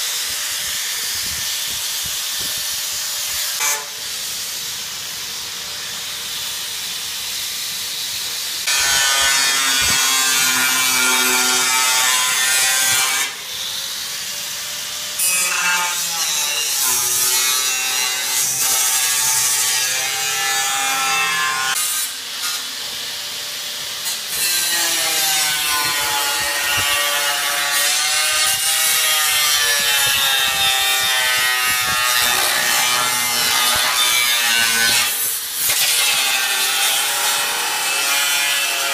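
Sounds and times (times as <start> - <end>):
angle grinder cutting steel: 5.6 - 38.9.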